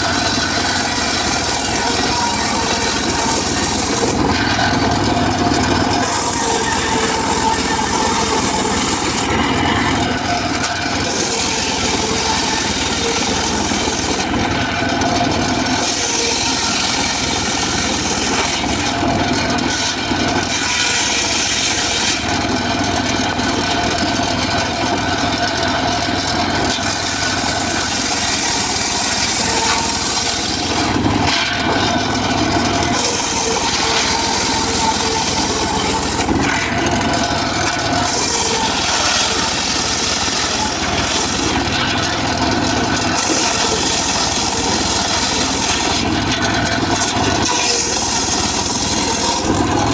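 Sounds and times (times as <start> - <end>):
circular saw cutting wood: 0.0 - 49.9
saw motor hum: 0.0 - 49.9.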